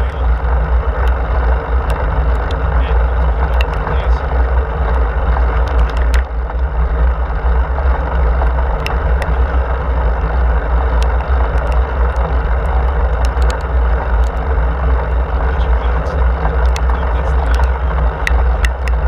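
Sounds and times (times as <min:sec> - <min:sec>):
small clicks and rattles: 0:00.0 - 0:19.0
wind rumble on microphone: 0:00.0 - 0:19.0.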